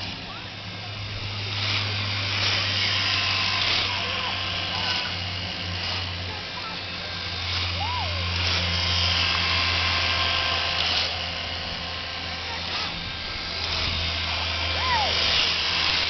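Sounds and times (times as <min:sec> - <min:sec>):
toy boat motors buzzing: 0:00.0 - 0:16.0.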